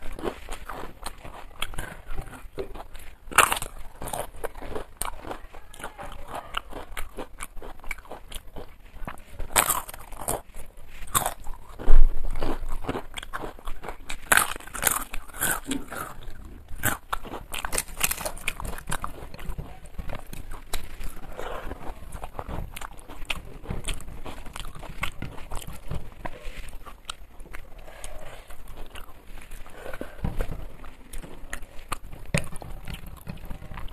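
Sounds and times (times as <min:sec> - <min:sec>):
crunching and chewing: 0:00.0 - 0:33.9.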